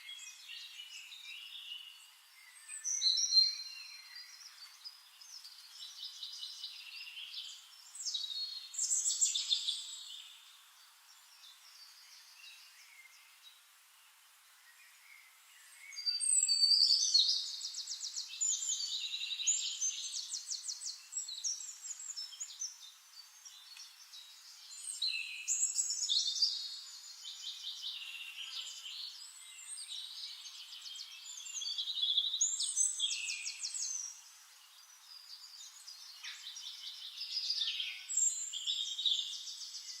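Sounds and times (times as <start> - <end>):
songbirds singing trills: 0.0 - 40.0.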